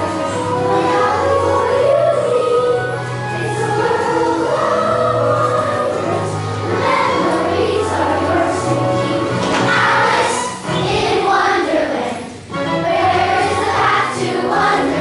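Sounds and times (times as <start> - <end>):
group of voices singing: 0.0 - 15.0
musical accompaniment: 0.0 - 15.0.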